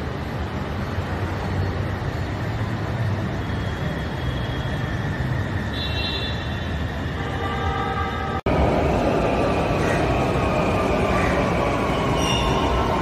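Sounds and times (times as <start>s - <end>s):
low rumble of city noise: 0.0s - 13.0s.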